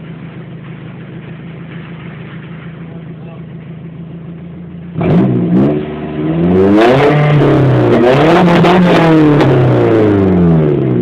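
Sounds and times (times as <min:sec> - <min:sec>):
pickup engine revving: 0:00.0 - 0:11.0.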